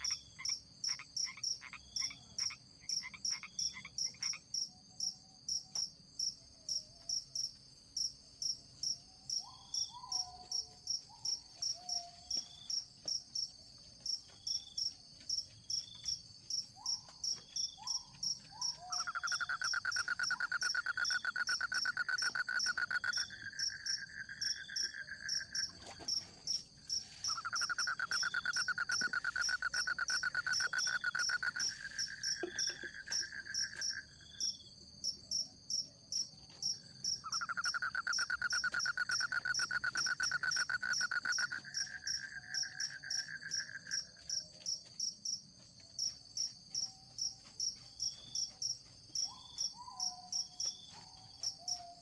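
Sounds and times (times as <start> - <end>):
high cricket-like chirring: 0.0 - 52.0.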